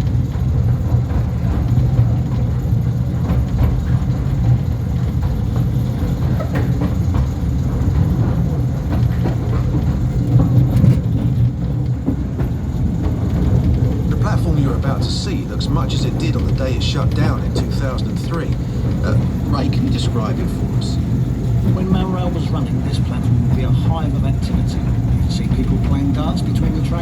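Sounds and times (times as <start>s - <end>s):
train rumbling in tunnel: 0.0s - 27.0s
wheels clicking on track: 0.0s - 27.0s.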